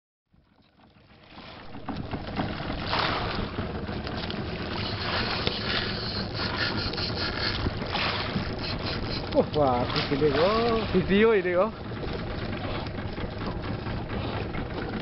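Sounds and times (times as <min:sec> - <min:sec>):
sea noise: 0:00.4 - 0:15.0
steady low hum: 0:01.1 - 0:15.0.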